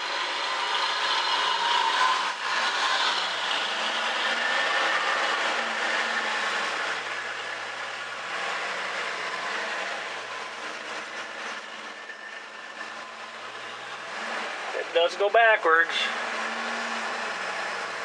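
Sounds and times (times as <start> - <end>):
pickup truck engine running: 0.0 - 18.0
vehicle rattles: 0.0 - 18.0.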